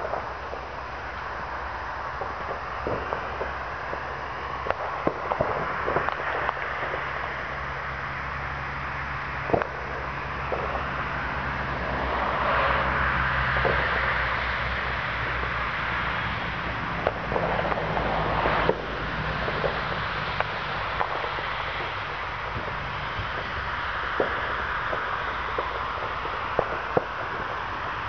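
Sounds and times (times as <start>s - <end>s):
distant firecracker bangs: 0.0s - 28.0s
outdoor rumble and hiss: 0.0s - 28.0s.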